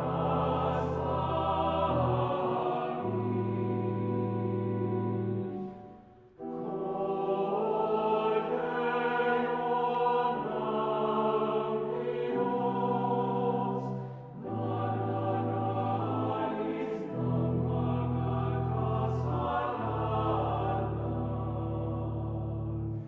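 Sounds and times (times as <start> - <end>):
mixed choir singing chords: 0.0 - 23.0.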